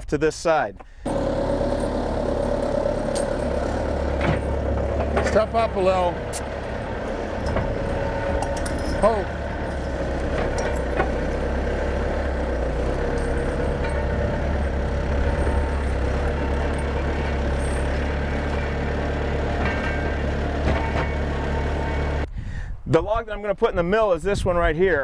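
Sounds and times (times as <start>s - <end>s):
diesel engine running: 0.9s - 22.3s.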